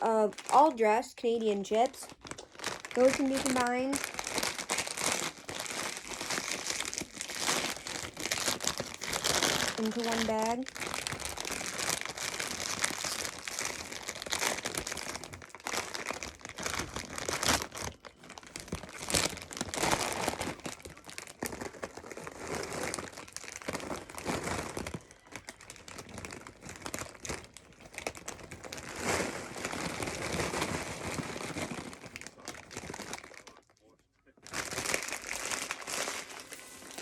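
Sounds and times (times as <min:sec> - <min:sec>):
plastic chip bags crinkling: 0:00.0 - 0:37.0.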